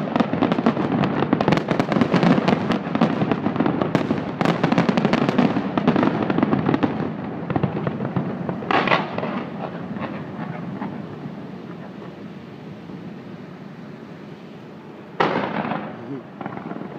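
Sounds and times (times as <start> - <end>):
loud firework burst: 0.0 - 14.2, 15.1 - 16.9
fireworks crackling: 0.0 - 16.9.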